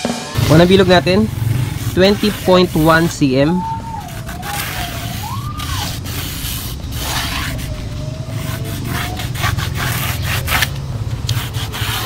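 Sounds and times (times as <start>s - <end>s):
steady low rumble: 0.4s - 12.0s
pencil scraping across plywood: 1.7s - 3.4s, 4.0s - 12.0s.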